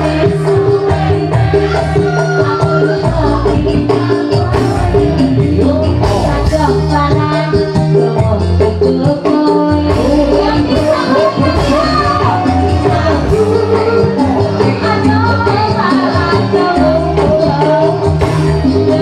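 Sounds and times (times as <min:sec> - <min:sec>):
electronic keyboard band: 0:00.0 - 0:19.0
hand drums: 0:00.0 - 0:19.0
woman singing: 0:00.0 - 0:19.0.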